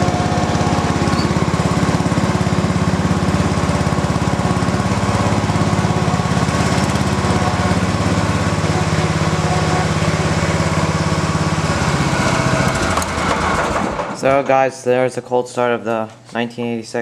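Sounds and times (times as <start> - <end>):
lawn tractor engine running: 0.0 - 14.2.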